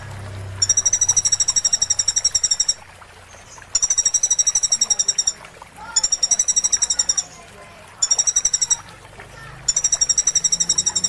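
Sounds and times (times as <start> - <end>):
songbird high-pitched trill: 0.6 - 8.9, 9.7 - 11.0.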